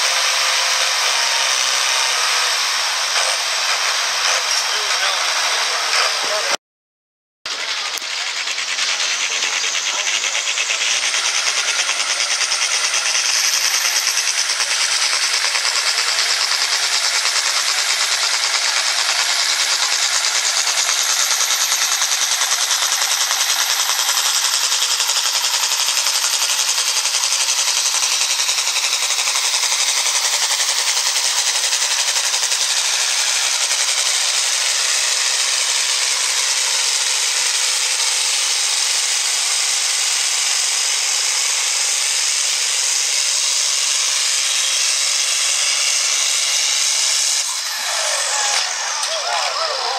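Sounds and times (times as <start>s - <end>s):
tractor diesel engine clatter: 0.0s - 6.6s, 7.5s - 49.9s
turbo whine: 0.0s - 6.6s, 7.5s - 49.9s.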